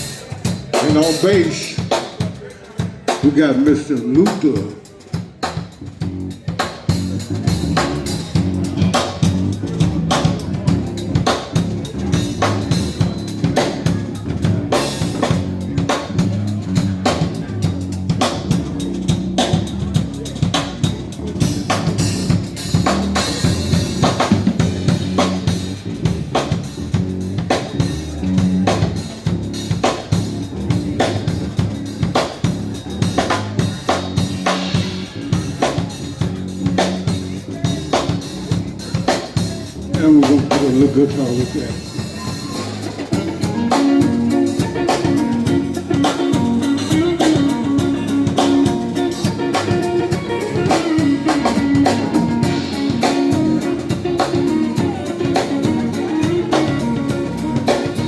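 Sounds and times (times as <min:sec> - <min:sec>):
drum kit groove: 0:00.0 - 0:58.0
electric bass guitar line: 0:05.4 - 0:58.0.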